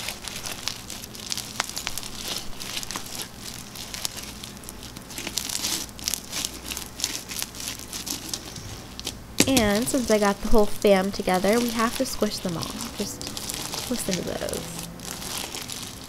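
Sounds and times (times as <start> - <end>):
crunchy slime squeezed by hand: 0.0 - 10.3, 11.2 - 16.0.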